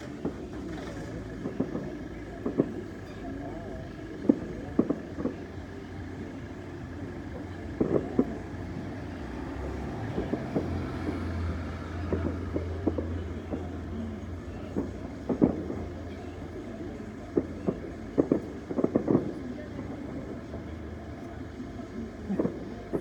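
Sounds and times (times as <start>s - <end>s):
distant fireworks bangs: 0.0s - 23.0s.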